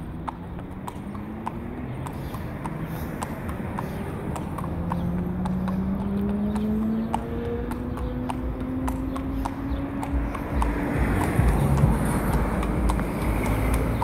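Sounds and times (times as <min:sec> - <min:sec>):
horse hooves on tarmac: 0:00.0 - 0:14.0.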